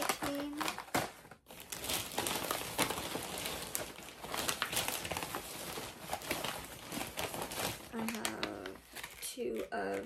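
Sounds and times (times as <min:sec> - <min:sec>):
plastic snack bags crinkling: 0:00.0 - 0:10.0.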